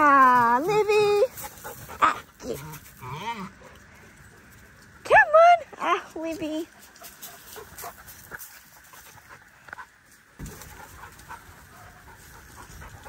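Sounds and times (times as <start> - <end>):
dogs scuffing and clicking: 0.0 - 5.0, 6.1 - 13.0.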